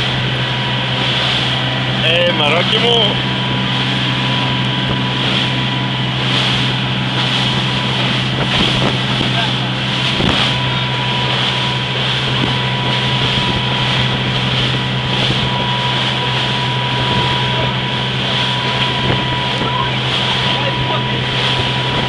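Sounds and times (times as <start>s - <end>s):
motorboat engine humming: 0.0s - 22.0s
water noise: 0.0s - 22.0s
wind on microphone: 3.1s - 22.0s.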